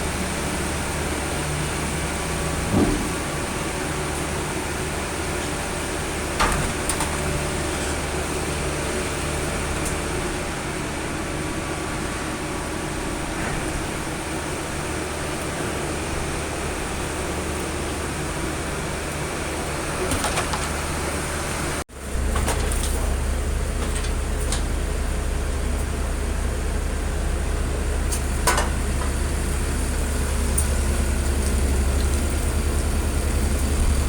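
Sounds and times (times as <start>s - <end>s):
baler machine hum: 0.0s - 34.0s.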